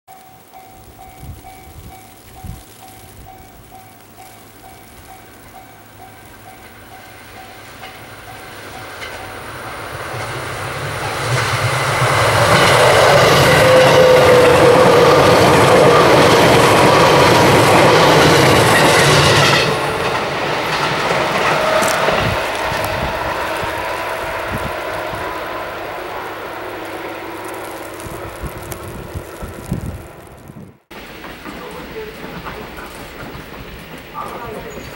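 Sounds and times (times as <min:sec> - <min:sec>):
wheels clattering on track: 0:00.1 - 0:25.4, 0:26.4 - 0:34.9
electric train passing: 0:00.1 - 0:34.9.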